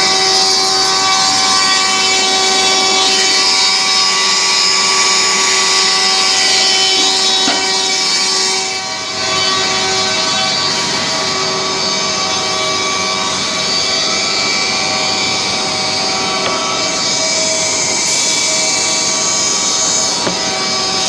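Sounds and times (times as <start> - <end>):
woodworking machine whirring: 0.0 - 21.0.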